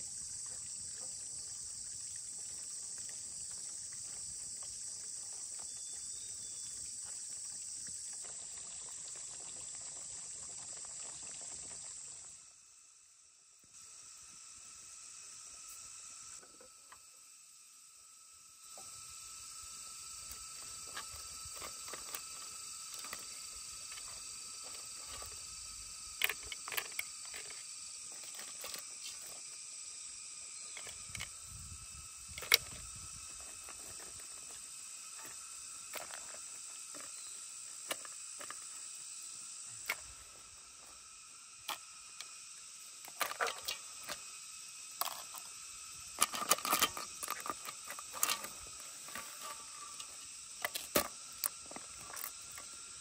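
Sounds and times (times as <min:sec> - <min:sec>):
insects chirping: 0:00.0 - 0:53.0.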